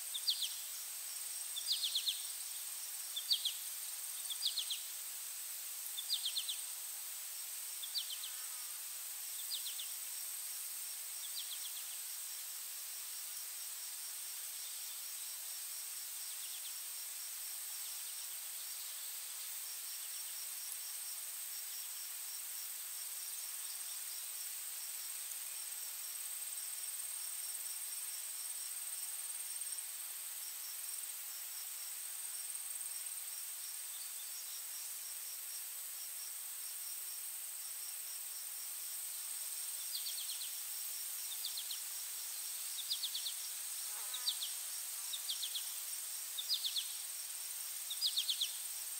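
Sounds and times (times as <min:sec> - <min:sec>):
insects chirping: 0:00.0 - 0:48.9.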